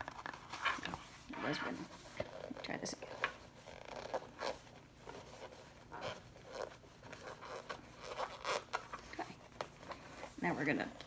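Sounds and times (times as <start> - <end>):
vinyl rustling and scraping: 0.0 - 11.0.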